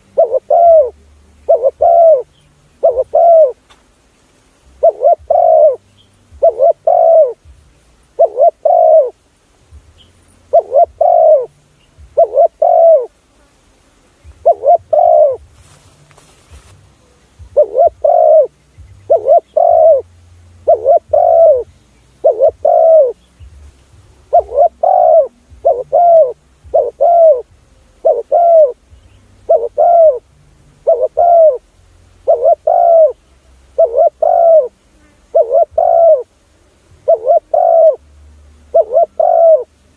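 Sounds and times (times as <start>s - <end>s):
dove cooing: 0.0s - 3.7s, 4.7s - 9.2s, 10.4s - 13.2s, 14.3s - 15.5s, 17.4s - 38.0s, 38.7s - 39.9s.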